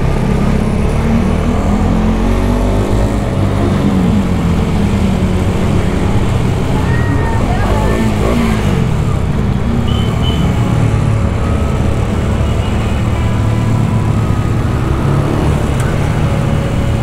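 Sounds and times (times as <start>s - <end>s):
motorcycle engine running: 1.5s - 17.0s.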